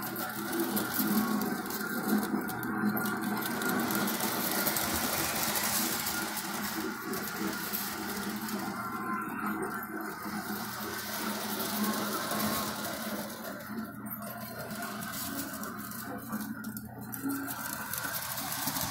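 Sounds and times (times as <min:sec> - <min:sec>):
fine mechanical clatter: 0:00.0 - 0:18.9
model train motor whir: 0:00.0 - 0:18.9.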